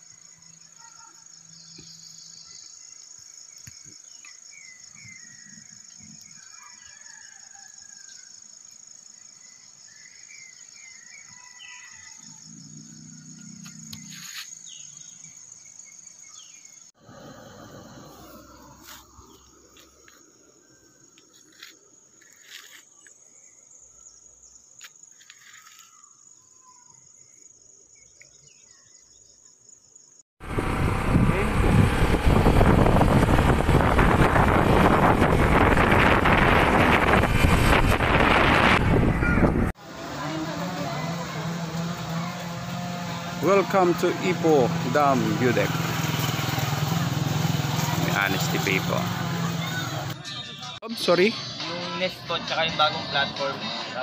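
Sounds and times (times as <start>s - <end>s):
insect chorus: 0.0s - 30.3s, 39.8s - 54.0s.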